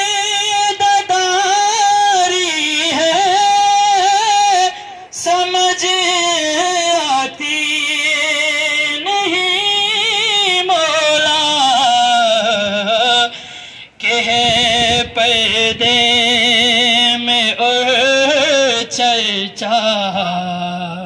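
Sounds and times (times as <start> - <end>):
person singing devotional song: 0.0 - 21.0.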